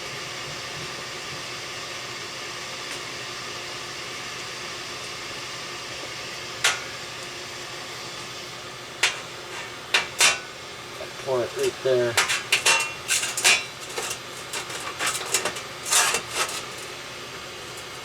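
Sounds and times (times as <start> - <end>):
steady hiss: 1.3 - 18.0.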